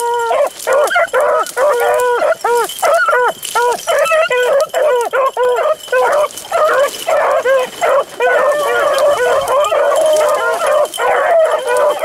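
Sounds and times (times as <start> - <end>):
dogs baying: 0.0 - 12.0.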